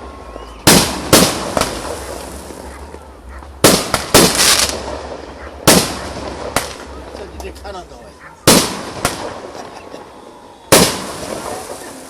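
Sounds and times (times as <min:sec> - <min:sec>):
fireworks bursting: 0:00.0 - 0:12.0
fireworks crackle: 0:00.0 - 0:12.0.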